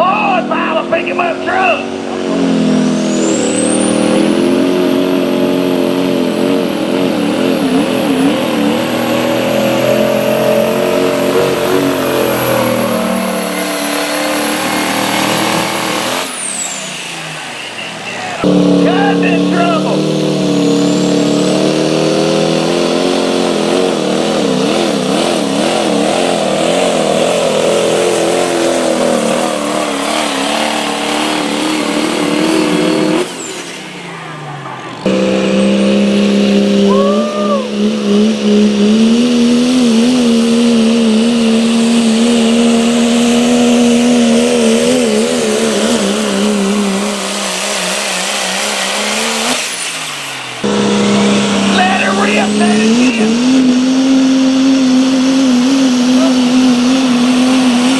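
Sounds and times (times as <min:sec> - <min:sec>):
diesel truck engine at full throttle: 0:00.0 - 0:57.9.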